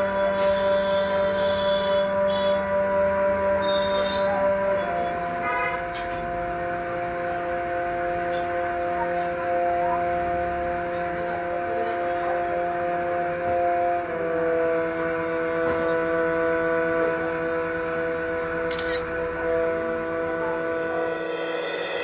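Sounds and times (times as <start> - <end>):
sustained chord music: 0.0 - 22.0.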